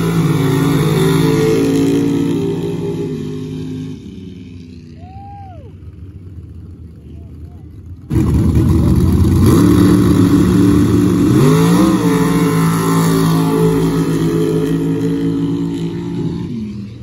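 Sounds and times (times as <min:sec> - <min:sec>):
pickup trucks accelerating: 0:00.0 - 0:17.0.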